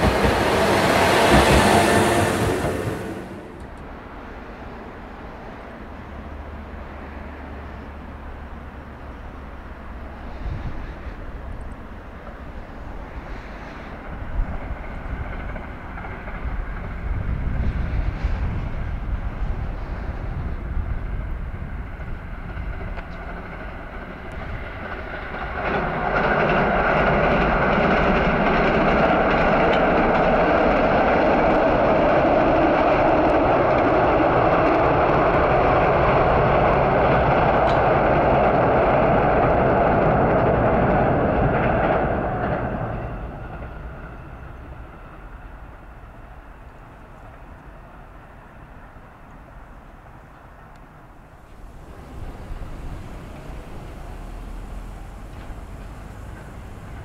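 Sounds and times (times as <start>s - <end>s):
diesel railcar rumbling: 0.0s - 57.0s
loud railcar engine running: 0.0s - 57.0s.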